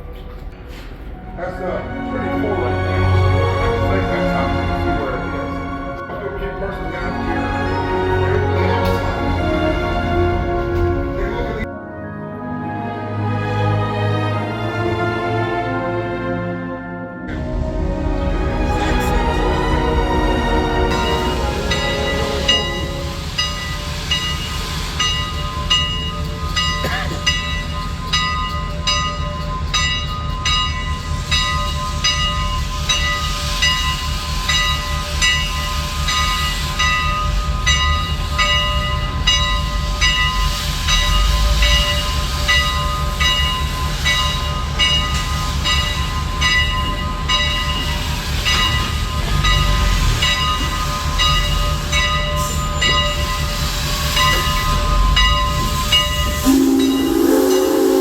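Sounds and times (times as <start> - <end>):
locomotive machinery running: 2.4 - 11.7, 17.3 - 58.0.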